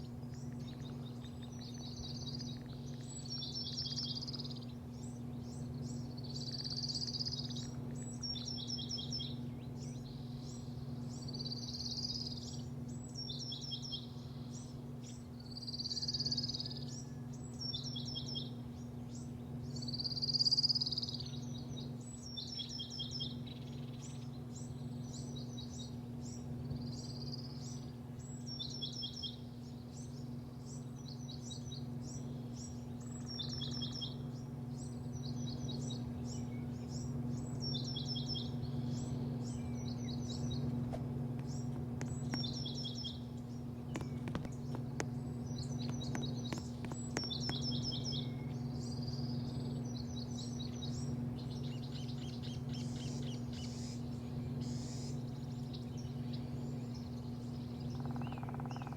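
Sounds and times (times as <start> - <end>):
songbirds whistling and chirping: 0.0 - 58.9
steady low hum: 0.0 - 58.9.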